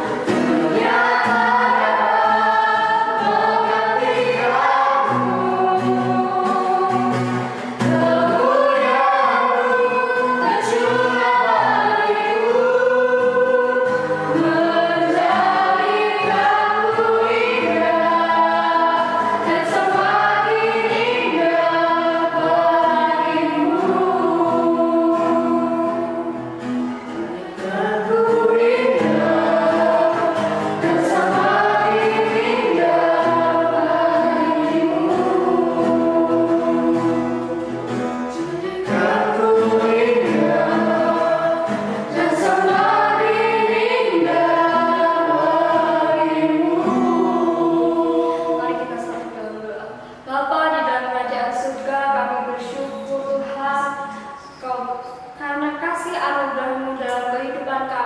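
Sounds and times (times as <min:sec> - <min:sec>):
instrumental accompaniment: 0:00.0 - 0:50.1
group singing worship song: 0:00.0 - 0:55.4.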